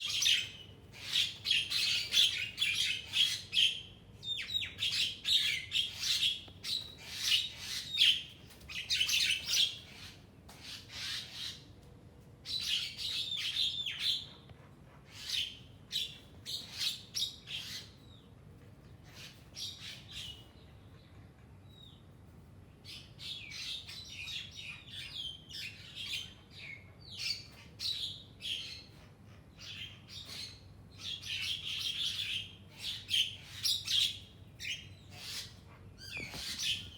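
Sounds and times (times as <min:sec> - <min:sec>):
pet birds chirping and squawking: 0:00.0 - 0:11.8, 0:12.4 - 0:22.0, 0:22.8 - 0:36.9.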